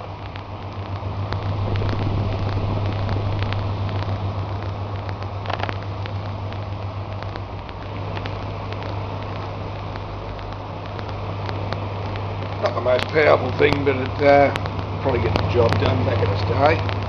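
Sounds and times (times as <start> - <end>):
exhaust fan motor humming: 0.0 - 17.0
faint clicks: 0.0 - 17.0.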